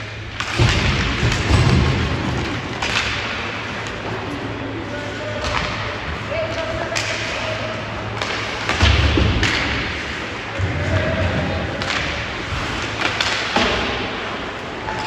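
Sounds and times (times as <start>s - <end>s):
hockey sticks and puck clacking: 0.0s - 15.0s.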